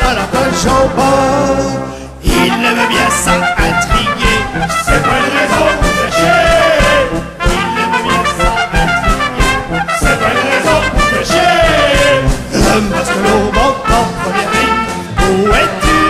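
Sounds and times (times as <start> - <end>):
brass band music: 0.0 - 16.0
steady drum beat: 2.3 - 16.0.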